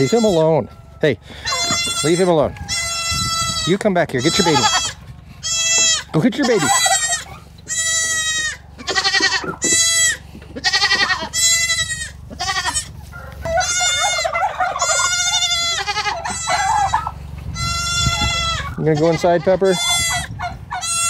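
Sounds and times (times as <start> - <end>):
goats bleating: 0.0 - 21.0.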